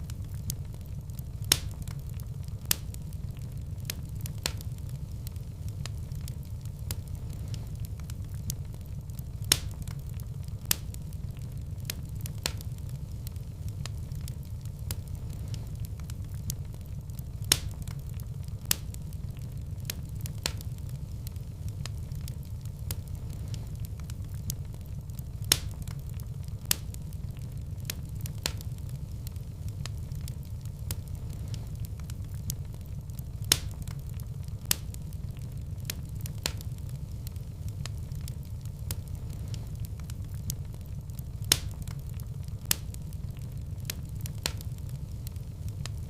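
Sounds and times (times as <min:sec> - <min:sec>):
fire low rumble: 0:00.0 - 0:46.0
wood fire crackling and popping: 0:00.0 - 0:46.0.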